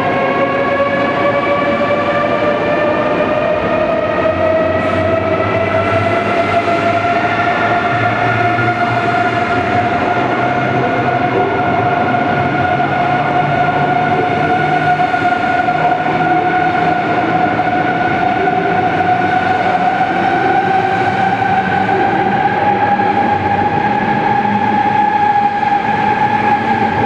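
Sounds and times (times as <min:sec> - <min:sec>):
electric train whine: 0:00.0 - 0:27.0.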